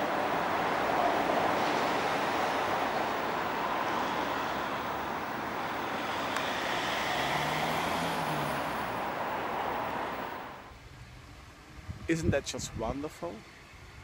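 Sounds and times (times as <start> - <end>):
outdoor rushing noise: 0.0 - 12.2.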